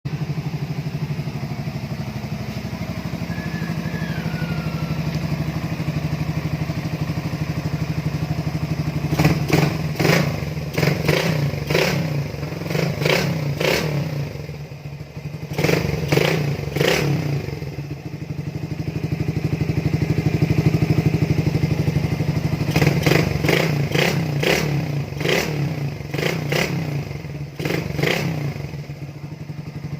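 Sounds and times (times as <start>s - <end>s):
motorcycle engine idling and revving: 0.1s - 29.9s.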